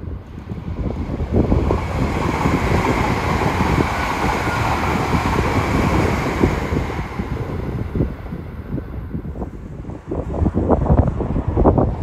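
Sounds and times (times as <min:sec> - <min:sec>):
train running past: 0:00.0 - 0:11.5.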